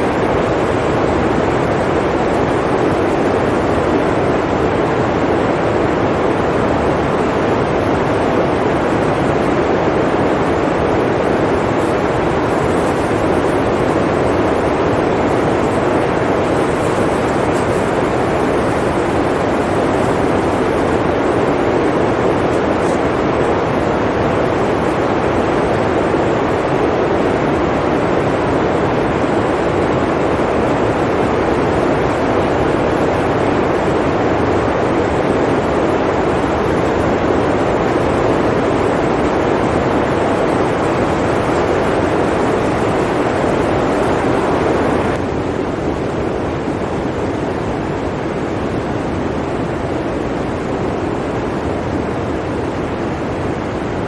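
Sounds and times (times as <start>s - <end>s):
blizzard wind rushing: 0.0s - 54.0s.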